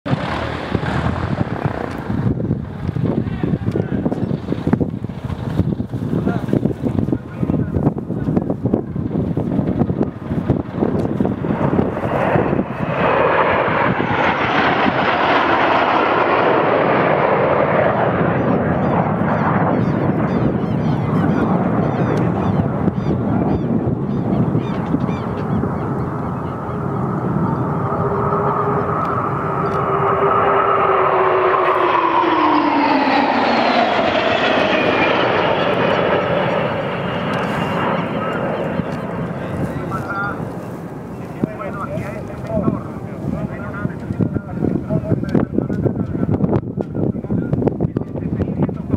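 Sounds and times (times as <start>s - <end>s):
steady rushing noise: 0.0s - 48.9s
aircraft flying past low: 0.1s - 48.9s
airplane passing overhead: 0.1s - 48.9s.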